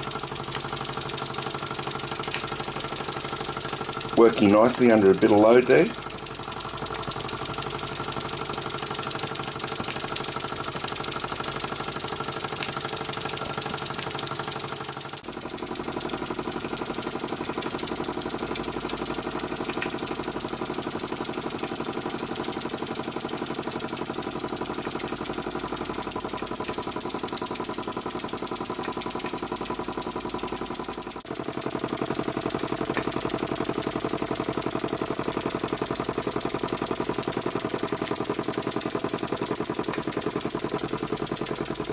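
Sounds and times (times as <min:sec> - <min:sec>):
model steam engine chuffing: 0:00.0 - 0:41.9.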